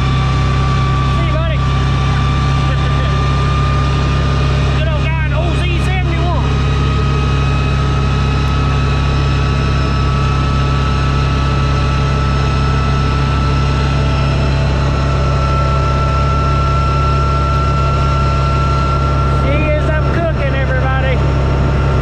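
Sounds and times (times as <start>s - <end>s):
drivetrain whine: 0.0s - 22.0s
vehicle engine drone: 0.0s - 22.0s.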